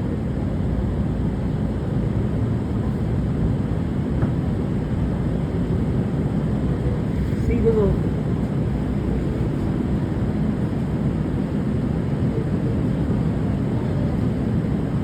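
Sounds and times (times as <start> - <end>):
train car rumble and hiss: 0.0 - 15.0.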